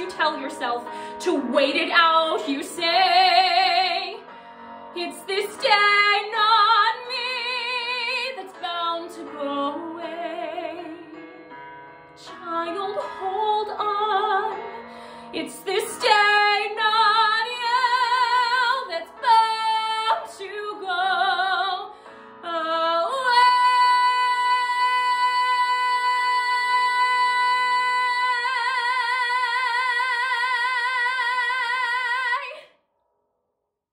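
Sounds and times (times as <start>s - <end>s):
woman singing: 0.0s - 4.2s, 5.0s - 11.2s, 12.2s - 32.7s.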